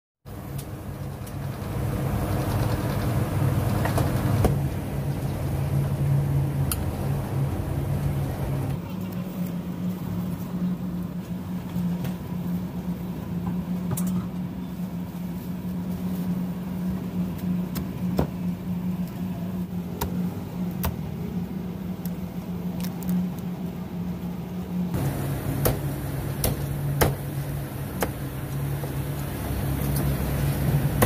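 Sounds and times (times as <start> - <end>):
low motor hum: 0.3 - 31.0.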